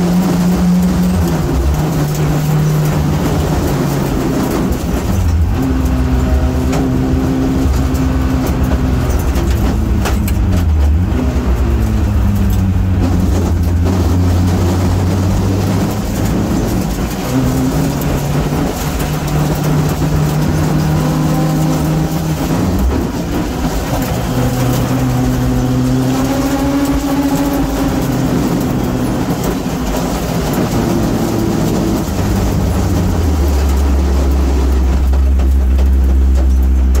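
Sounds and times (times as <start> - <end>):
car engine revving: 0.0 - 37.0
gravel road noise: 0.0 - 37.0.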